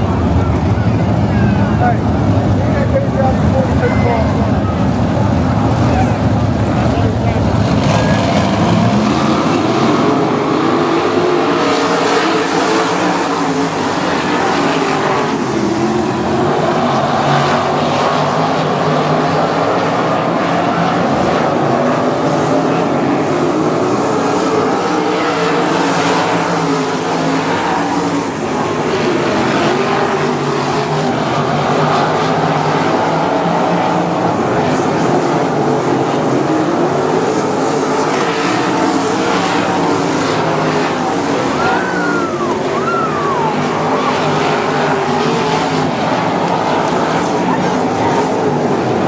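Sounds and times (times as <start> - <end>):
race car engines at high revs: 0.0 - 49.0.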